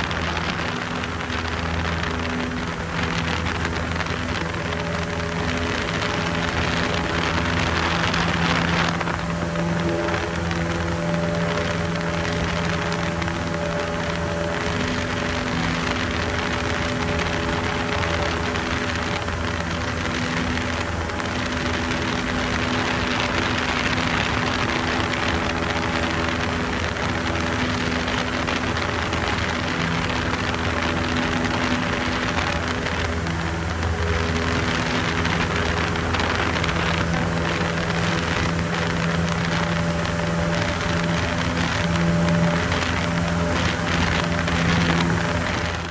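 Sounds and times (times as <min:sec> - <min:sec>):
aircraft engine droning in cabin: 0:00.0 - 0:45.9.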